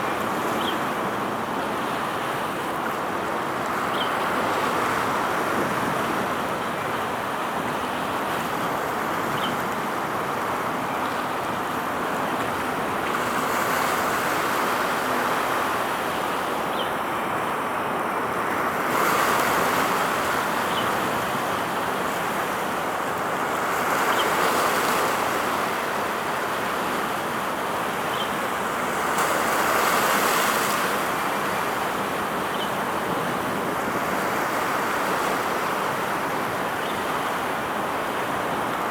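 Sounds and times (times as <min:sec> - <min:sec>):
wind: 0:00.0 - 0:38.9.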